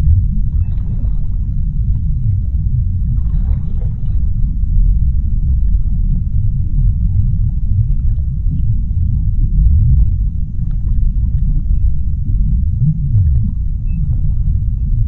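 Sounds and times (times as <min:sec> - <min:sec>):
deep underwater rumble: 0:00.0 - 0:15.0.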